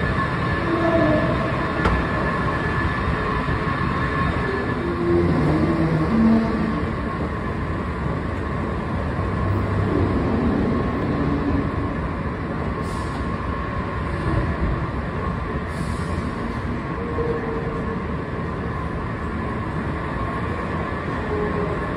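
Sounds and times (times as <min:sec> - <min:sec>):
escalator mechanical drone: 0:00.0 - 0:21.9.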